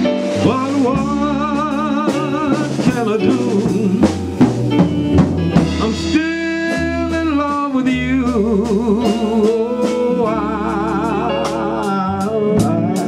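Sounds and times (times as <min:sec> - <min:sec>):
person singing: 0:00.0 - 0:04.5, 0:05.5 - 0:13.0
slow blues ballad music: 0:00.0 - 0:13.0.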